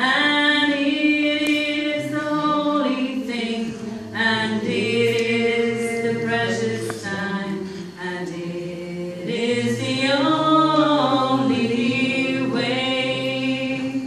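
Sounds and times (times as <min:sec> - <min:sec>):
woman singing slow song: 0:00.0 - 0:14.0.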